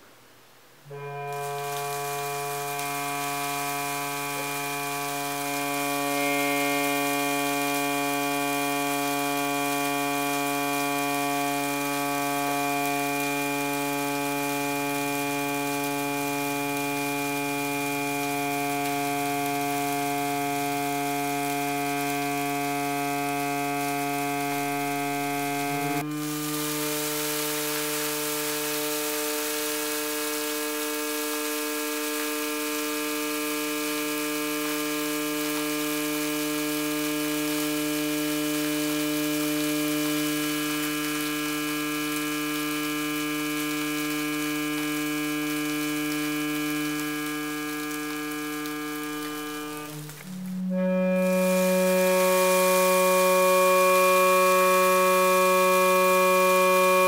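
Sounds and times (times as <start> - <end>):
buzzing sine tone on metal plate: 0.8 - 57.0
grains jittering hiss: 1.4 - 30.0, 36.5 - 56.8.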